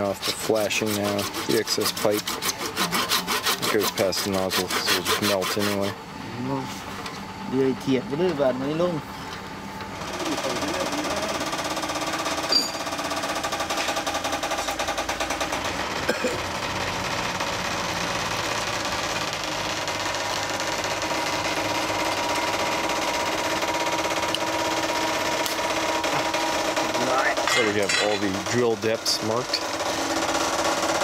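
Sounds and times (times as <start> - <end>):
machine rattling and humming: 0.0 - 31.0.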